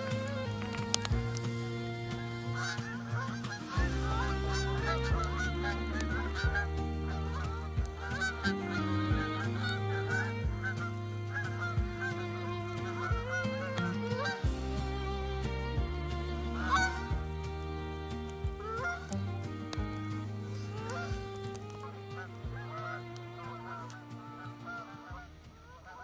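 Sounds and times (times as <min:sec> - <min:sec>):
background music with low held notes: 0:00.0 - 0:26.0
geese honking: 0:00.0 - 0:26.0.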